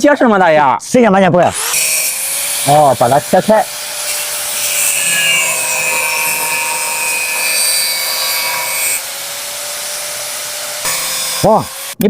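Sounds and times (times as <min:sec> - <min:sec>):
angle grinder cutting steel pipe: 0:01.4 - 0:12.0.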